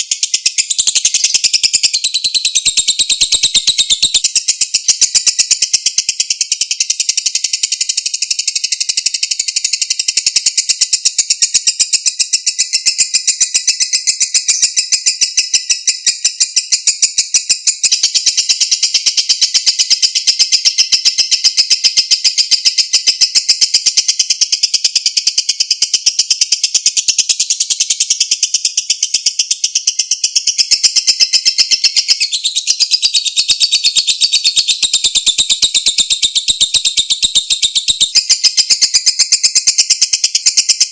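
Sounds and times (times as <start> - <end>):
bird chattering trill: 0.0 - 40.9.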